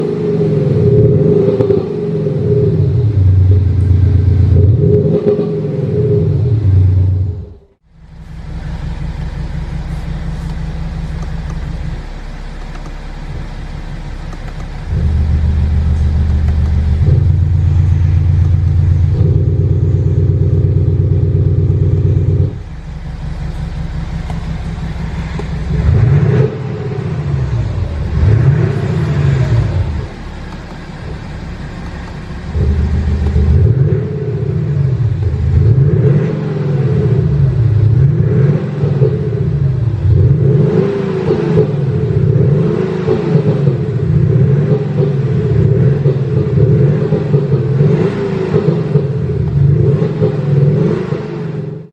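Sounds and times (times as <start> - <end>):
electronic exhaust note revving: 0.0 - 51.9.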